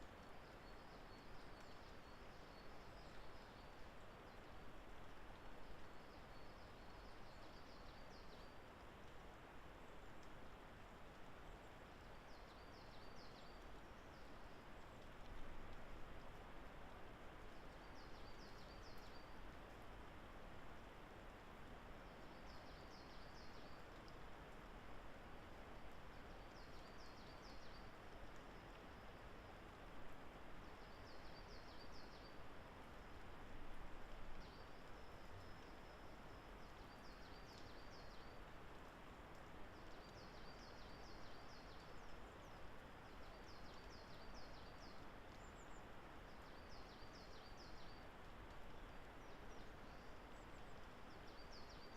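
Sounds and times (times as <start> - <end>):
forest background hiss: 0.0 - 51.9.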